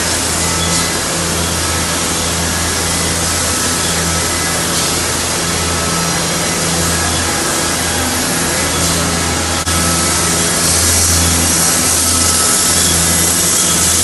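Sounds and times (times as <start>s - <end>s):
printing machine running: 0.0s - 14.0s.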